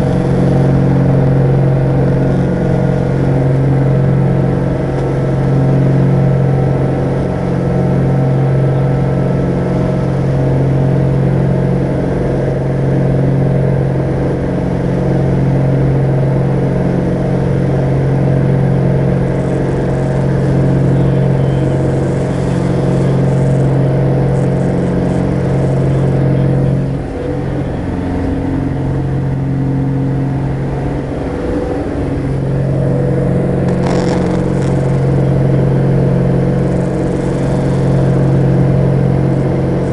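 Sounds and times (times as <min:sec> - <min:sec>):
aircraft engines droning in cabin: 0:00.0 - 0:39.9.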